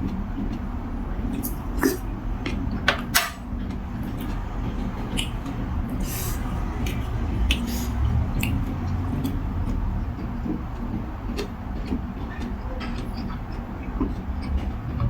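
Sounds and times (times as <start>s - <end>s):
chewing and slurping: 0.0s - 2.9s, 3.5s - 15.0s
steady low rumble: 0.0s - 15.0s.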